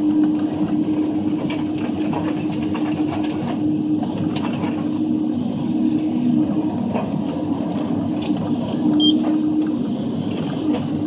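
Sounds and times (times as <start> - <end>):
machine engine and hydraulics hum: 0.0 - 11.0.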